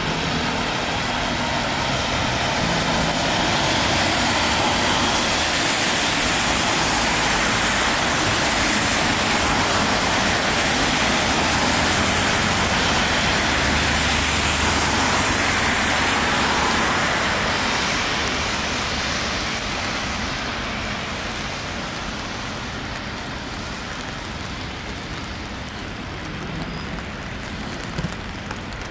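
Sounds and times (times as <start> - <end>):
car engines: 0.0 - 28.9
tyres hissing on wet road: 0.0 - 28.9.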